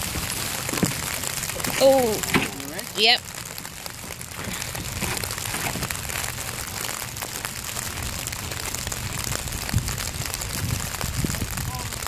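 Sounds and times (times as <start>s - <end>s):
rain on a boat and water: 0.0s - 12.0s.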